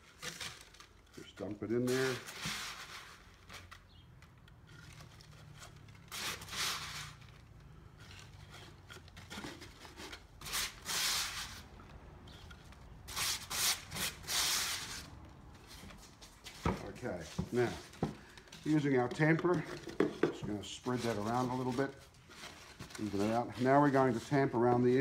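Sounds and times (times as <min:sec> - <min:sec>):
wet mix scraping and rustling: 0:00.0 - 0:25.0.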